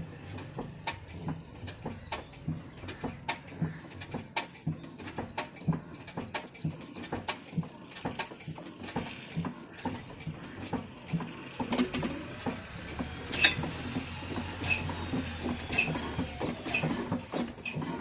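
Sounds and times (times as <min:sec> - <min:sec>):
diesel engine knocking: 0:00.0 - 0:18.0.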